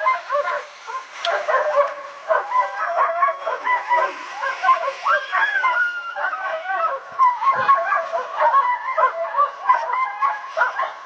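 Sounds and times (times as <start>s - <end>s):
dogs yipping and barking: 0.0s - 11.0s.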